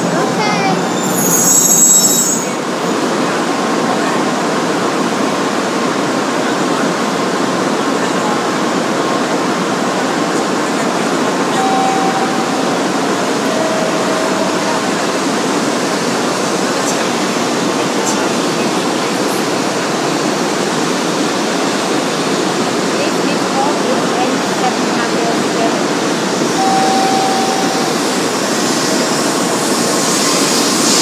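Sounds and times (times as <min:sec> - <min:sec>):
train rushing: 0:00.0 - 0:31.0.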